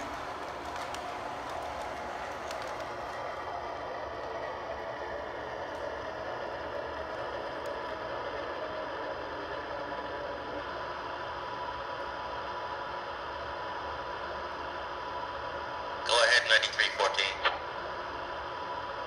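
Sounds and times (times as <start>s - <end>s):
faint steady whine: 0.0s - 19.0s
model train hum and rumble: 0.0s - 19.0s.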